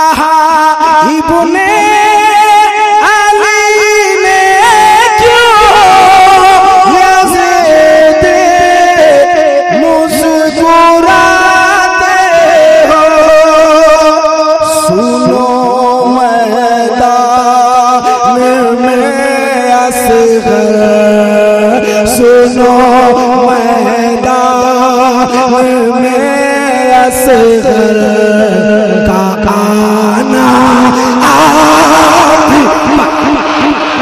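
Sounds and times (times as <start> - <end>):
man singing into microphone: 0.0 - 34.0.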